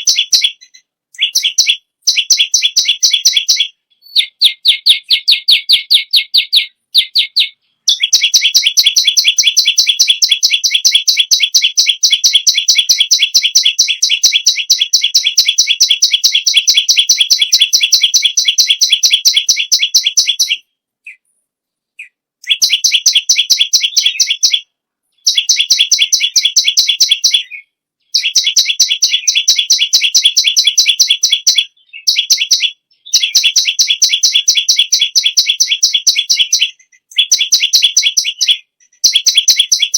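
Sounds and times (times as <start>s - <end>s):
bird singing sharp repeated notes: 0.0s - 21.3s, 22.0s - 39.9s.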